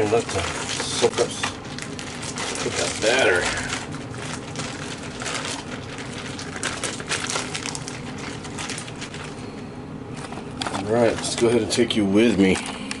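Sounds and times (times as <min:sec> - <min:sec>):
plastic bag crinkling: 0:00.0 - 0:09.4, 0:10.1 - 0:12.8.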